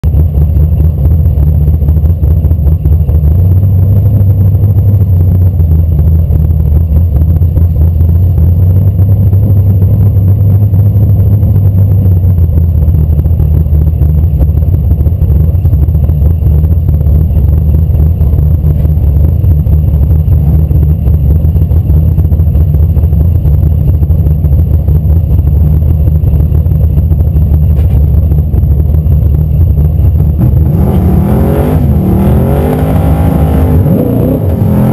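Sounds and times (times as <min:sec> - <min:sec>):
drag car engine idling: 0:00.0 - 0:34.9.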